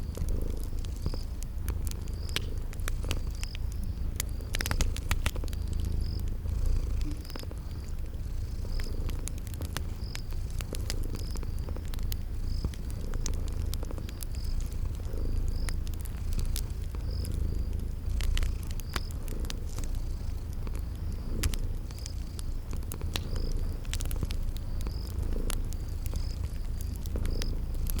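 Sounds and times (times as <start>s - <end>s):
cat purring: 0.0s - 28.0s
cricket chirping: 0.0s - 28.0s
wood fire crackling: 0.0s - 28.0s.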